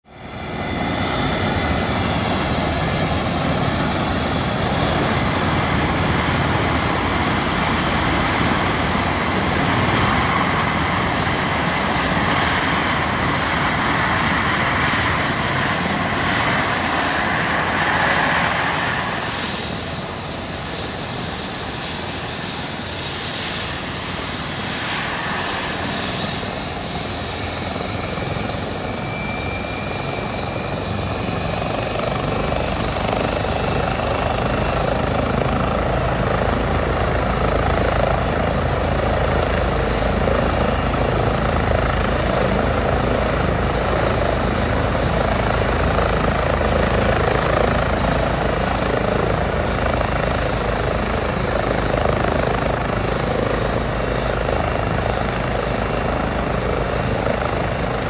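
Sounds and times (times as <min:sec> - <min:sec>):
helicopter engine and rotor noise: 0:00.0 - 0:58.0
turbine whine: 0:00.0 - 0:58.0.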